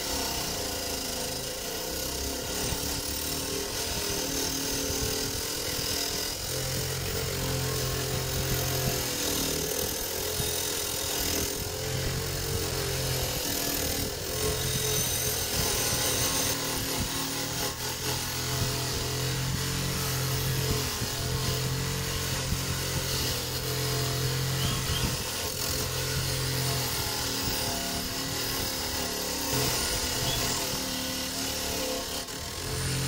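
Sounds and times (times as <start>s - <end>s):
bench grinder motor hum: 0.0s - 33.0s
wire wheel brushing metal: 0.0s - 33.0s.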